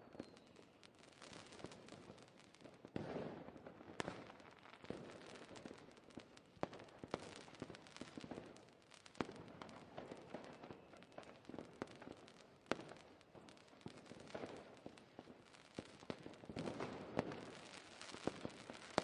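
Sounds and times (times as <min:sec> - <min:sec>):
fireworks crackling and popping: 0:00.0 - 0:19.0
fireworks bursting: 0:00.1 - 0:19.0.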